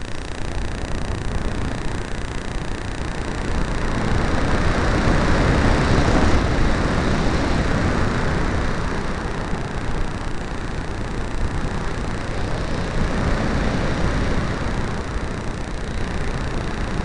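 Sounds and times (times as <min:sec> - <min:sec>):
wind rushing over camera: 0:00.0 - 0:17.0.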